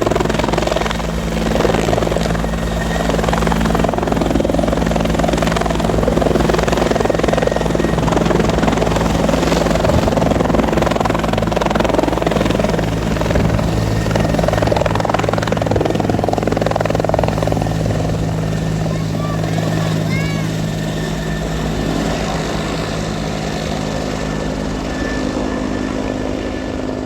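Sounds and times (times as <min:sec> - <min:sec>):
helicopter rotor and engine hum: 0:00.0 - 0:27.0.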